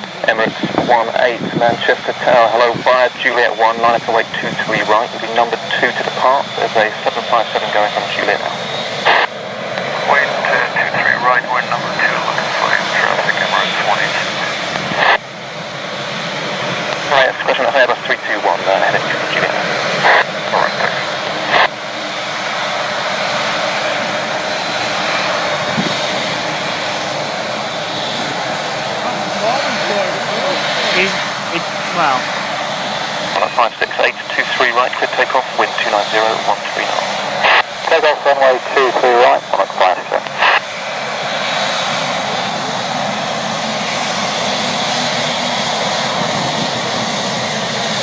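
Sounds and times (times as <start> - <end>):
jet engines rushing: 0.0 - 48.0.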